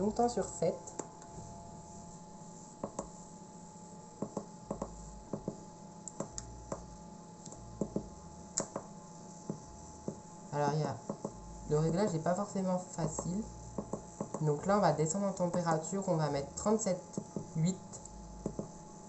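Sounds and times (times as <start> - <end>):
incubator humming: 0.0 - 19.0.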